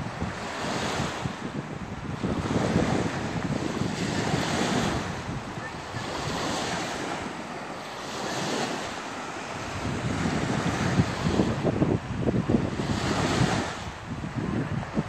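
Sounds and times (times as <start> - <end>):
lake waves breaking on beach: 0.0 - 15.0
wind buffeting microphone: 0.0 - 15.0.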